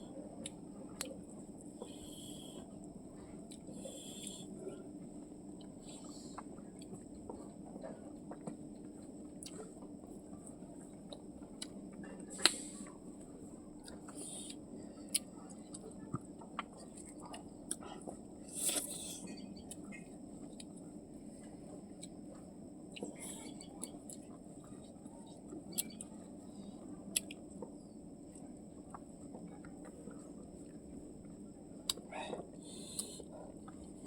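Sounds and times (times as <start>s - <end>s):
steady low hum: 0.0s - 34.0s
chewing and mouth noises: 0.4s - 12.9s, 13.7s - 20.8s, 21.4s - 26.2s, 27.0s - 34.0s.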